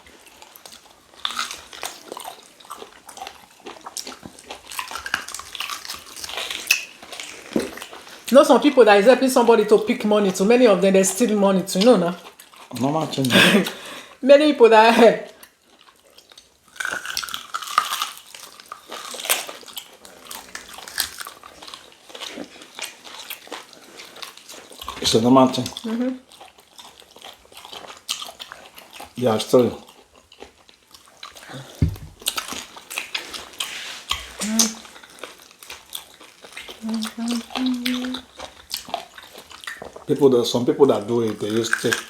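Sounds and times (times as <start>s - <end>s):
chewing and slurping: 0.0s - 8.3s, 11.8s - 13.3s, 15.3s - 42.0s.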